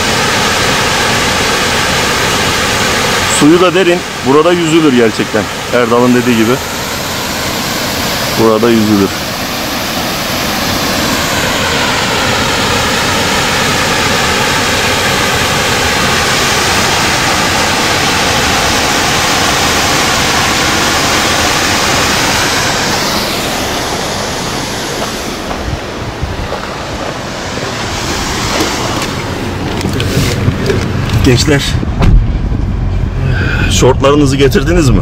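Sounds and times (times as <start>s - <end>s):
waterfall rushing into a pool: 0.0s - 30.8s.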